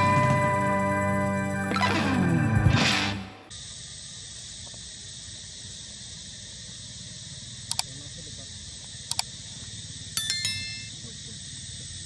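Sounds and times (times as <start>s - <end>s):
insect chorus drone: 0.0s - 2.7s, 3.4s - 12.0s.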